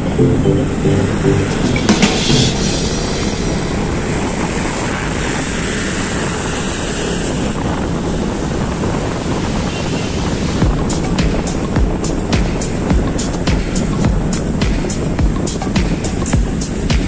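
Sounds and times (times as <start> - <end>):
wind rush over microphone: 2.6 - 16.8.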